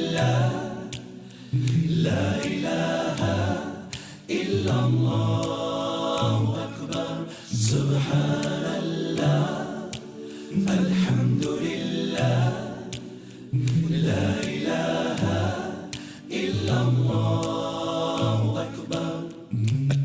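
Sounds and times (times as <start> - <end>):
a cappella voices singing: 0.0 - 20.0.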